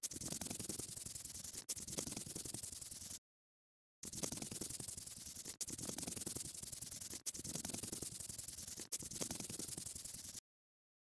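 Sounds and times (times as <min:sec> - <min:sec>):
brush rubbing scratchy noise: 0:00.0 - 0:03.2, 0:04.0 - 0:10.4.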